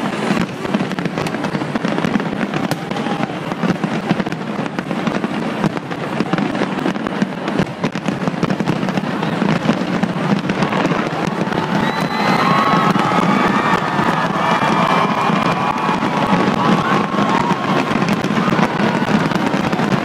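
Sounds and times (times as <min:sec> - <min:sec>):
crackling firework bursts: 0:00.0 - 0:20.0
fireworks bangs: 0:00.0 - 0:20.0.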